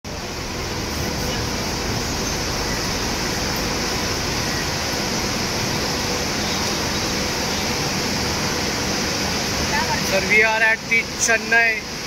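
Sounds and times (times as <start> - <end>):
faint steady hum: 0.1 - 12.0
train rumbling into station: 0.1 - 12.0.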